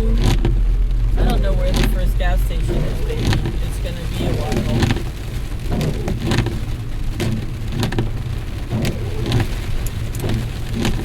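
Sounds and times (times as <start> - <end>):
engine and road rumble: 0.0 - 11.0
rain on car: 0.0 - 11.0.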